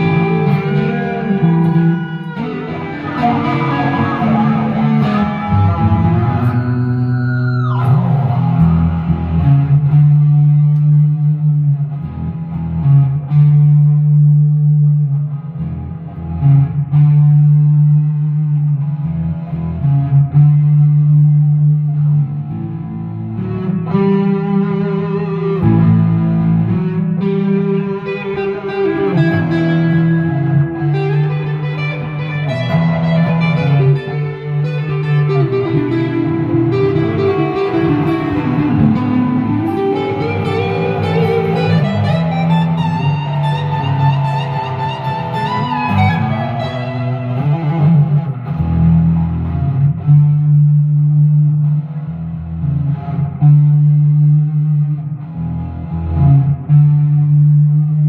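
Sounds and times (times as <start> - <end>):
electric guitars jamming: 0.0 - 58.0.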